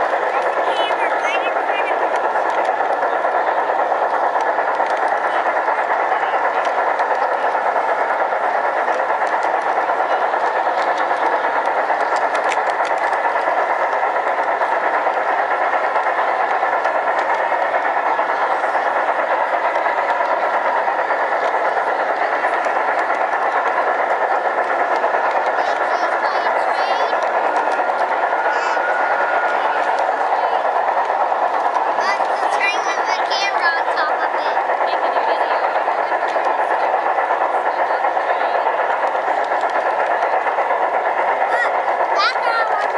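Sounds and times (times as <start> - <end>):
model train wheels and motor rolling: 0.0 - 42.9.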